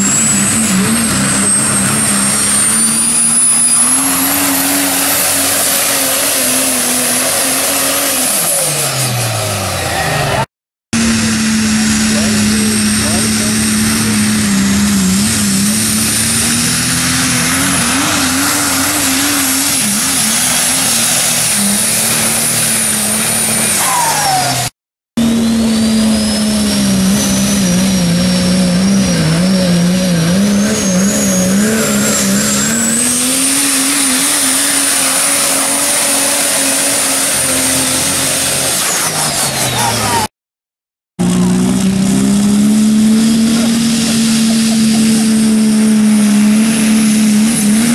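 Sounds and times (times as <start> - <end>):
turbocharger whistle: 0.0 - 9.1, 11.0 - 40.3
pickup truck engine at full throttle: 0.0 - 40.3, 41.2 - 47.9.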